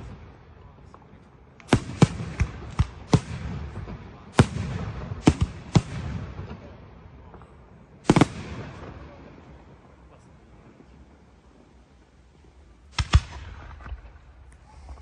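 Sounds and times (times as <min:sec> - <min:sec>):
fireworks bangs: 0:00.0 - 0:11.8, 0:12.8 - 0:15.0.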